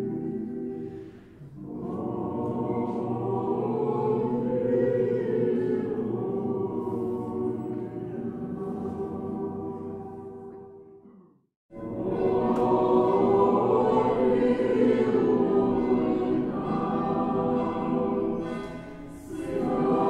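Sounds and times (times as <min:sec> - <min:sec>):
choir chanting sustained chords: 0:00.0 - 0:11.1, 0:11.7 - 0:20.0.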